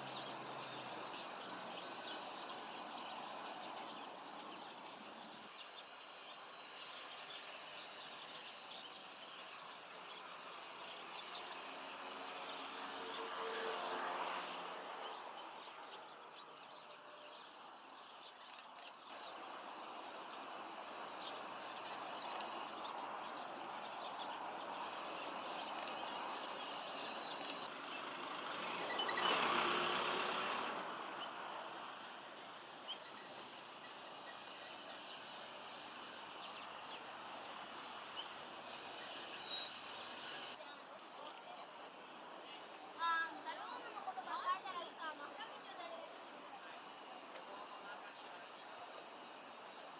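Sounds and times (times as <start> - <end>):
vehicles passing by: 0.0 - 5.6, 10.1 - 49.9.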